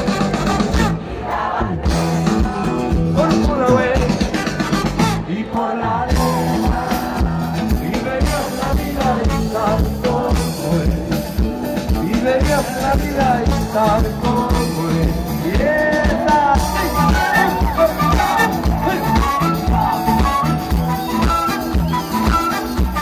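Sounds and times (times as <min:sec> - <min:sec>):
drums steady beat: 0:00.0 - 0:01.0, 0:01.8 - 0:05.3, 0:06.1 - 0:23.0
live rock band playing: 0:00.0 - 0:23.0.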